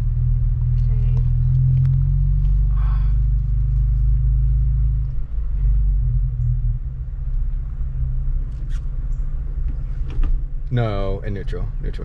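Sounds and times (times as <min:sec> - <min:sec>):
engine hum inside cabin: 0:00.0 - 0:12.0.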